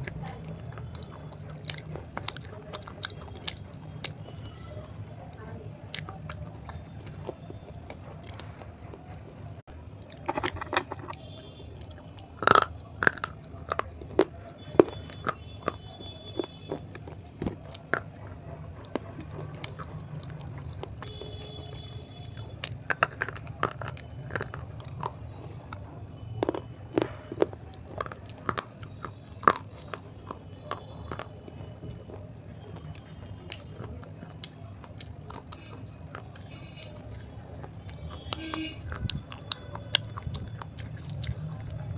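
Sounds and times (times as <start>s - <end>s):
crunchy chewing: 0.0s - 41.9s
low steady hum: 0.0s - 41.9s.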